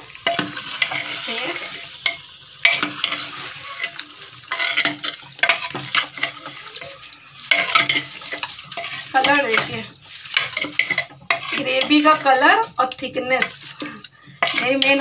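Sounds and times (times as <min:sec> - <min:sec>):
frying hiss: 0:00.0 - 0:15.0
metal ladle scraping a pot: 0:00.1 - 0:12.6, 0:13.3 - 0:15.0.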